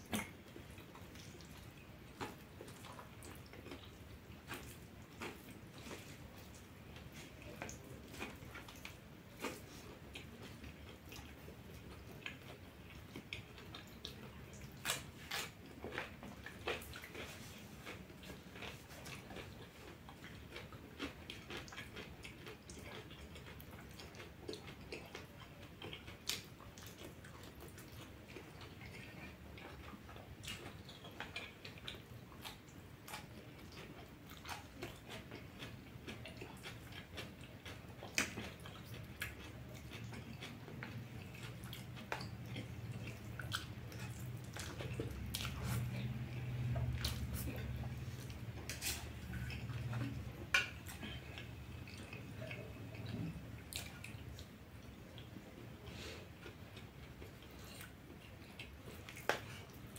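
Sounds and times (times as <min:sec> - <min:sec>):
person chewing and biting: 0:00.1 - 0:54.5.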